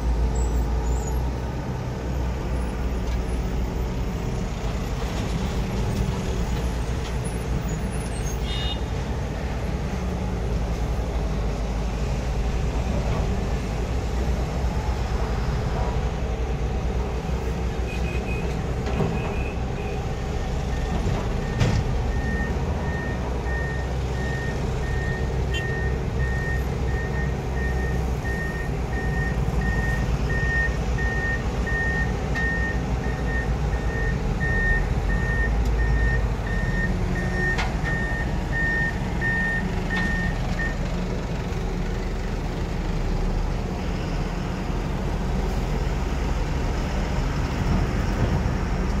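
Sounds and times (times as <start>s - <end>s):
excavator diesel engine: 0.0s - 49.0s.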